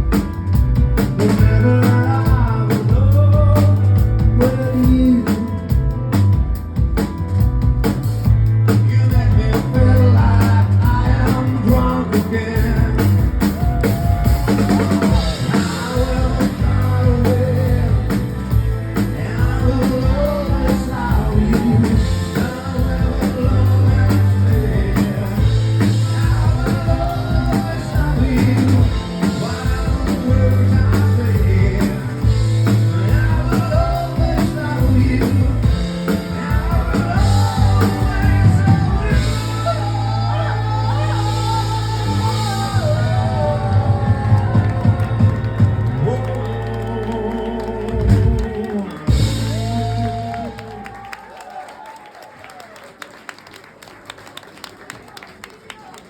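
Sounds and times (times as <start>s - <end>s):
drum kit: 0.0s - 47.0s, 47.9s - 51.0s
bass guitar: 0.0s - 51.1s
person singing: 1.0s - 6.0s, 8.5s - 51.0s.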